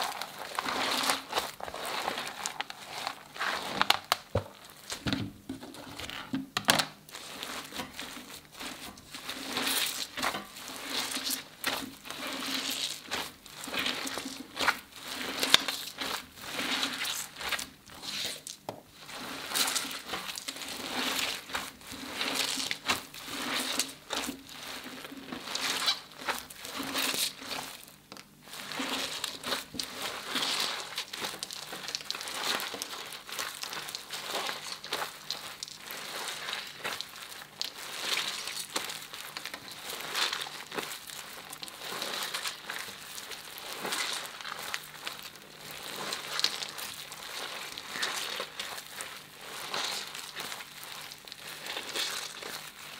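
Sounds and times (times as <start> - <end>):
foil crinkling: 0.0 - 5.1, 7.1 - 52.9
slime squelching: 0.0 - 5.1, 7.0 - 52.9.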